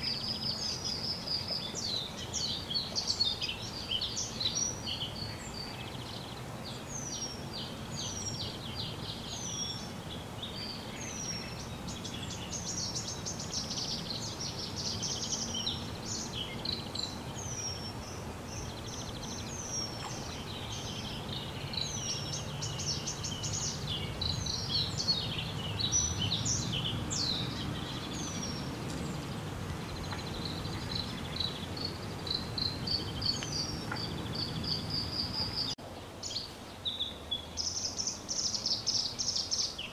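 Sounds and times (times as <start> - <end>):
low background noise: 0.0 - 39.9
small birds chirping: 0.0 - 39.9.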